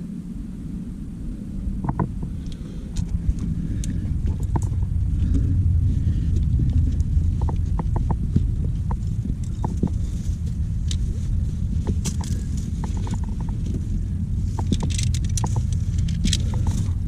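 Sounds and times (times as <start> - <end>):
steady low rumble: 0.0 - 17.0
climbing hardware clicking on rock: 1.8 - 17.0.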